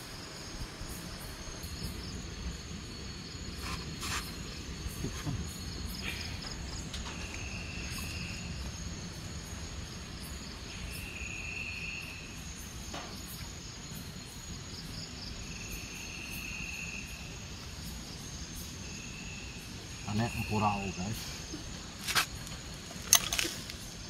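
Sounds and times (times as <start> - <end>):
buzzy insect call: 0.0 - 24.0
crickets shrilling: 0.0 - 24.0.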